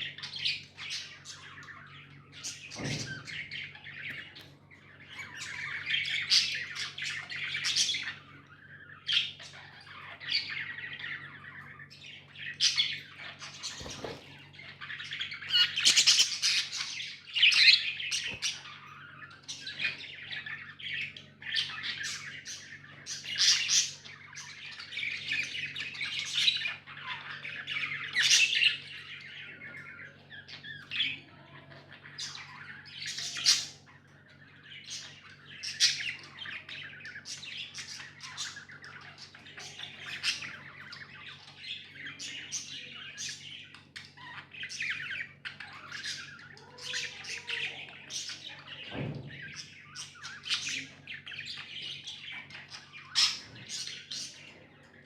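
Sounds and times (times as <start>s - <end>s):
budgerigars chirping and chattering: 0.0s - 55.0s.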